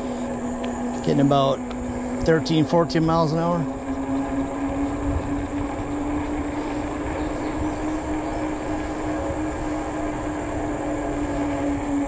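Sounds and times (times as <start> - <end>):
e-bike motor hum: 0.0 - 12.0
wind rumble on microphone: 0.0 - 12.0.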